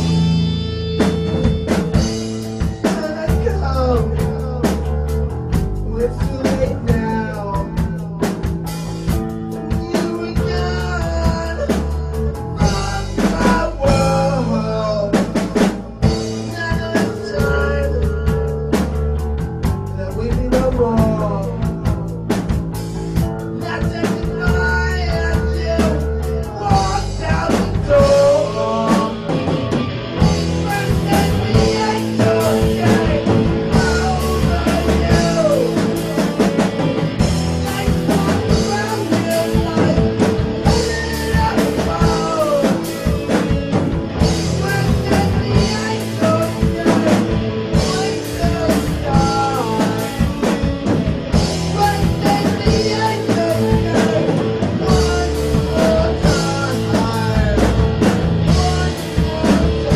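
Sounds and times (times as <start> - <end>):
person singing: 0.0 - 19.0, 19.9 - 59.9
rock band playing: 0.0 - 59.9.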